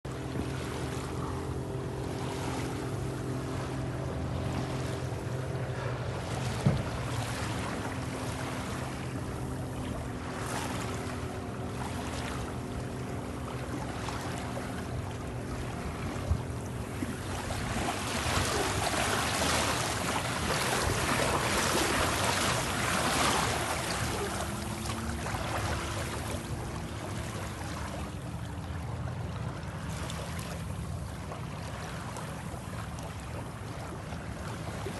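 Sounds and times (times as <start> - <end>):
wind: 0.0 - 34.9
motor hum: 0.1 - 34.9
rushing water: 0.1 - 34.9.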